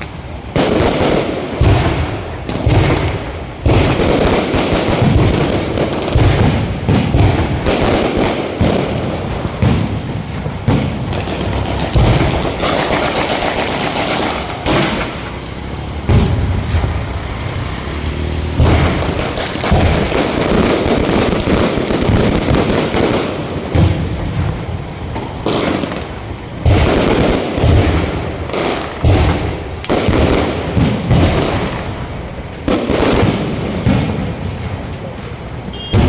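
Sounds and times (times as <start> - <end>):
fireworks booming: 0.0 - 36.0
fireworks crackling: 0.0 - 36.0.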